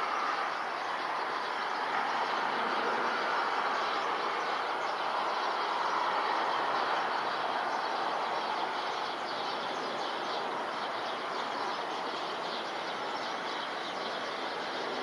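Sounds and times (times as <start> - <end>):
jet airliner engines rushing: 0.0 - 12.4.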